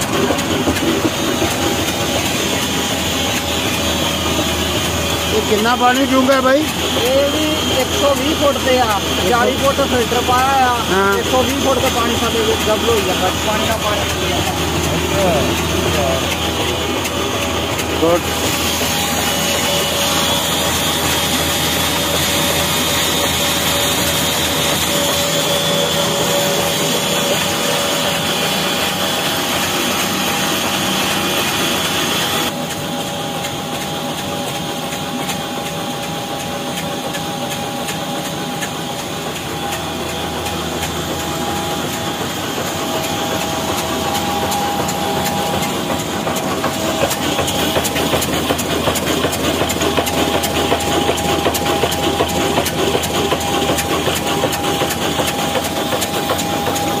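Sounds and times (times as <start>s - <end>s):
diesel engine knocking: 0.0s - 57.0s.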